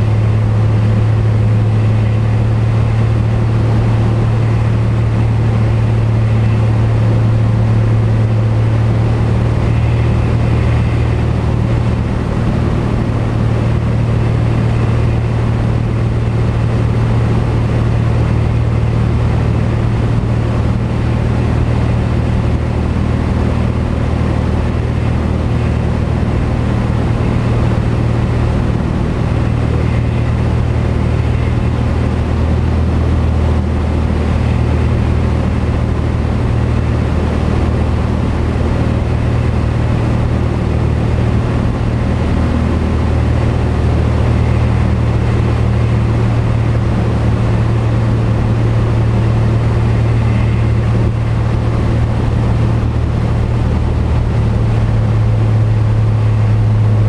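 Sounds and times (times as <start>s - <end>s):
airflow noise: 0.0s - 57.0s
light aircraft engine drone: 0.0s - 57.0s.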